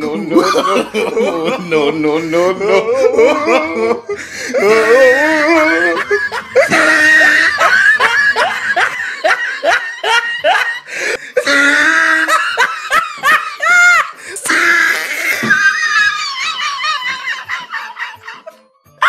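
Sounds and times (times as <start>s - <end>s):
person laughing high-pitched: 0.0s - 18.6s.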